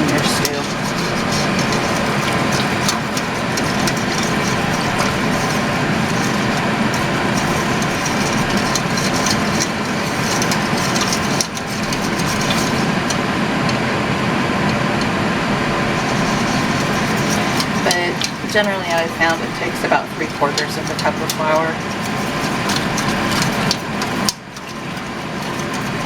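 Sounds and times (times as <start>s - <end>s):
spoon scraping in a pot: 0.0s - 13.4s, 15.9s - 26.0s
loud mechanical hum: 0.0s - 26.0s.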